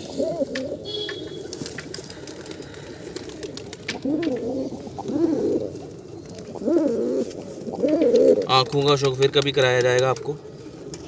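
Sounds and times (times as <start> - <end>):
pigeons cooing: 0.0 - 9.1.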